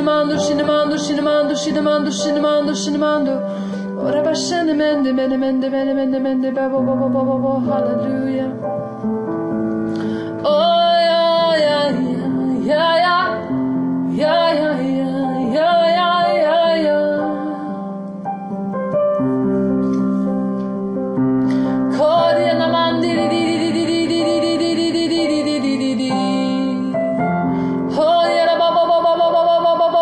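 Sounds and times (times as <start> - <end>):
piano playing slow chords: 0.0 - 30.0.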